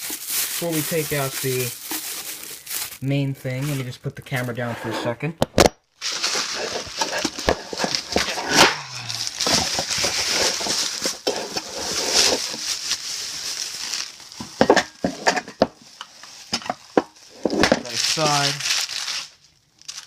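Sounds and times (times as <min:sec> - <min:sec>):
packaging crinkling and rustling: 0:00.0 - 0:04.7, 0:06.0 - 0:20.0.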